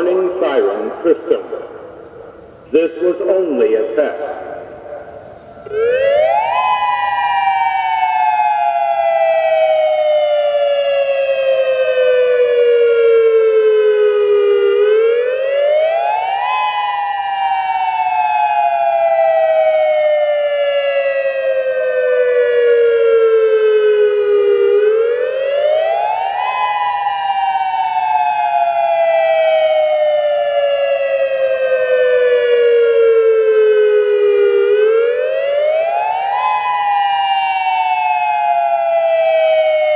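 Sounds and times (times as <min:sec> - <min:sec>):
electronic warning siren wailing: 0:04.7 - 0:39.9.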